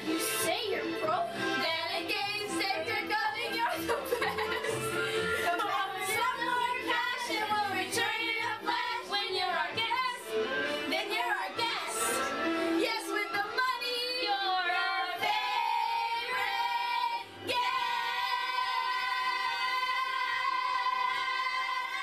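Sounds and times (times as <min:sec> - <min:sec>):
young women singing: 0:00.2 - 0:04.7, 0:05.4 - 0:10.3, 0:10.9 - 0:12.2, 0:12.8 - 0:22.0.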